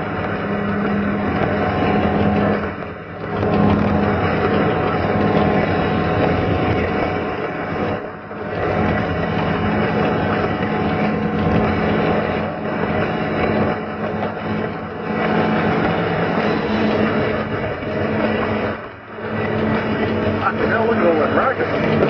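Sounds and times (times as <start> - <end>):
train engine drone: 0.0 - 22.0
wheel and rail noise: 0.0 - 22.0.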